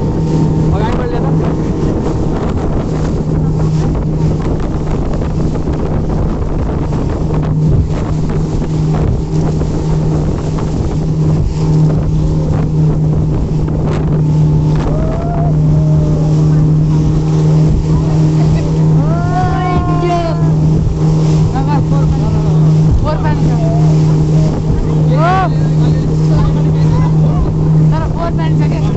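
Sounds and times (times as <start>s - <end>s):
engine running: 0.0s - 28.9s
wind buffeting microphone: 0.0s - 28.9s.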